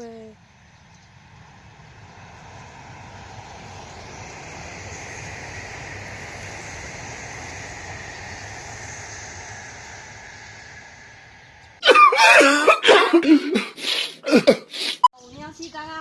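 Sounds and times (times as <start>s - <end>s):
high speed train passing: 0.0s - 14.0s.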